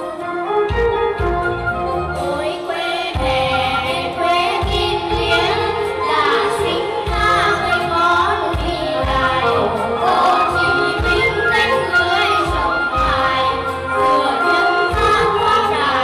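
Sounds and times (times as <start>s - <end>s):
instrumental backing track with beat: 0.0s - 16.0s
people singing folk song: 2.2s - 16.0s.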